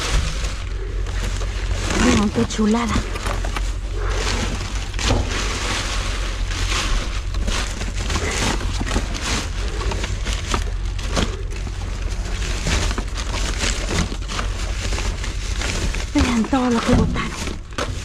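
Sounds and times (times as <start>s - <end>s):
steady low hum: 0.0s - 18.0s
trash rustling and knocking: 0.0s - 18.0s.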